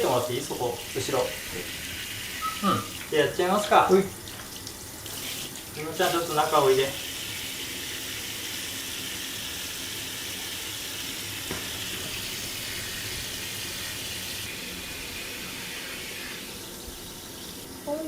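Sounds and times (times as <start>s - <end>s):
shower water running: 0.0s - 18.0s.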